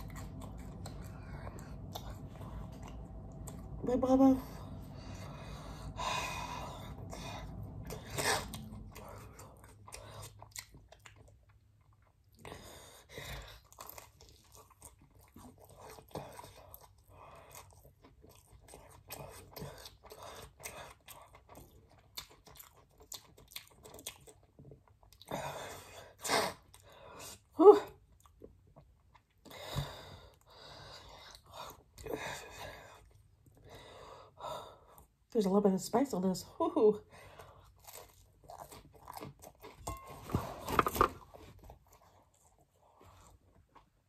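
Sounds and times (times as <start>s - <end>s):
person chewing pizza: 0.0s - 3.8s, 4.5s - 35.3s, 37.1s - 44.0s.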